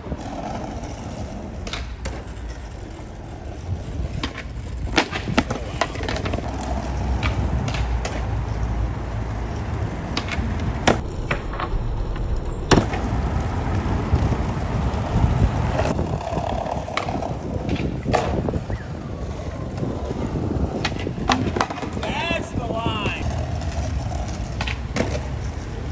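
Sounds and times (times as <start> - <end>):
skateboard clacking on ground: 0.0 - 11.7, 12.7 - 25.9
skateboard wheels rolling on pavement: 0.0 - 25.9.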